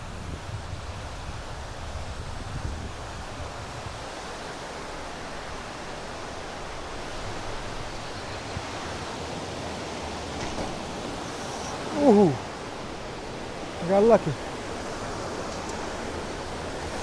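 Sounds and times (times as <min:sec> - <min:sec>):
river water rushing: 0:03.0 - 0:17.0.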